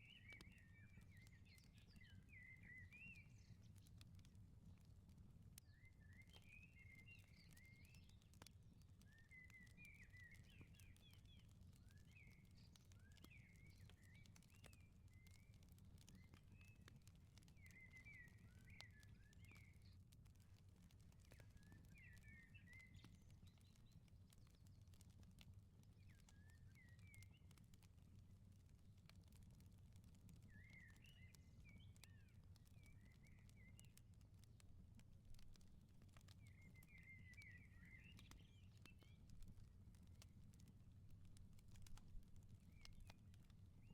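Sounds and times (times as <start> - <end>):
firepit crackling: 0.1 - 43.9.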